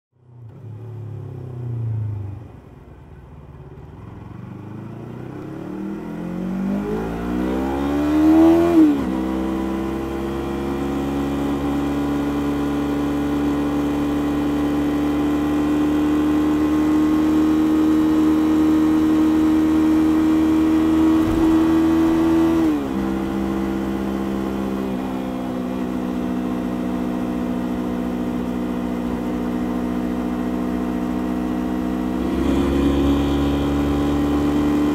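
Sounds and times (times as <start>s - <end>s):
motorcycle engine revving: 4.2s - 34.9s.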